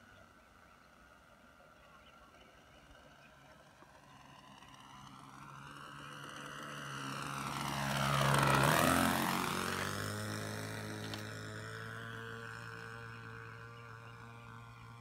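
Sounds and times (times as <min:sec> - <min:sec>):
model plane engine fly-by: 0:00.0 - 0:15.0.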